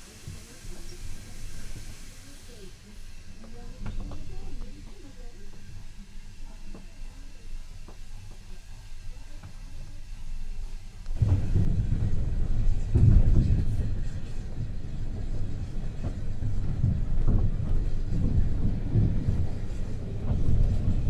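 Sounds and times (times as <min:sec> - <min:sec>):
train carriage rumbling: 0:00.0 - 0:21.0.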